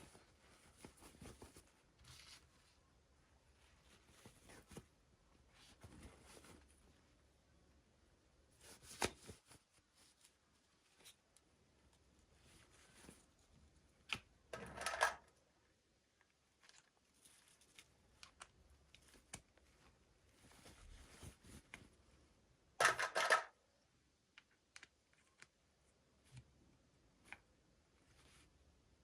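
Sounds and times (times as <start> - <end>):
soft rustling of packaging: 0.0 - 23.4, 24.2 - 29.0.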